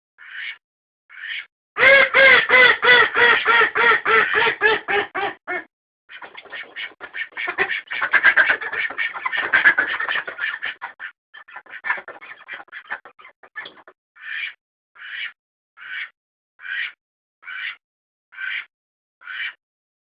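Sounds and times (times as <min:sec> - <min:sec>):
ducks quacking: 0:00.2 - 0:17.8, 0:18.4 - 0:19.6.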